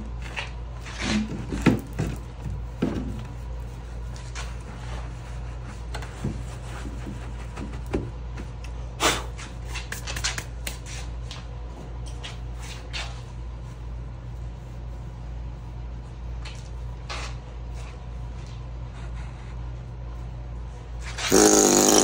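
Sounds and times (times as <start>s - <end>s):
fan humming: 0.0s - 22.0s.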